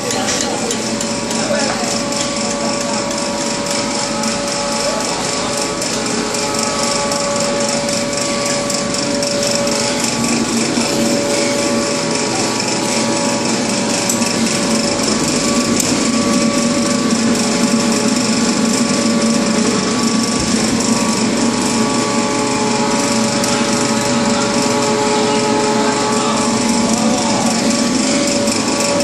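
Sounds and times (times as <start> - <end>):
steady machine hums: 0.0 - 29.0.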